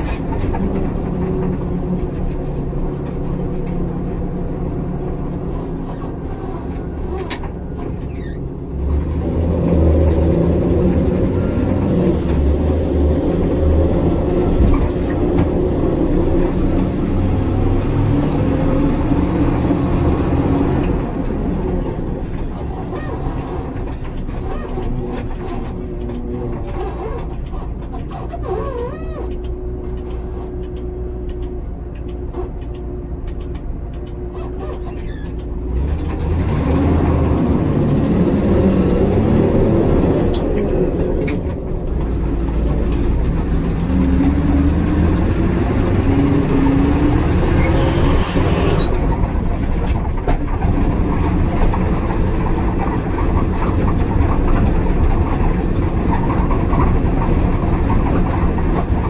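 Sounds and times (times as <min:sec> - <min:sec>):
truck engine running: 0:00.0 - 0:28.6, 0:29.2 - 0:59.0.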